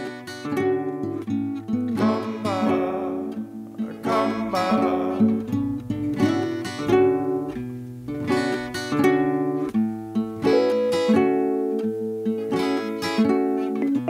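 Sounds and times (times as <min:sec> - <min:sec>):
acoustic guitar strummed and picked: 0:00.0 - 0:14.0.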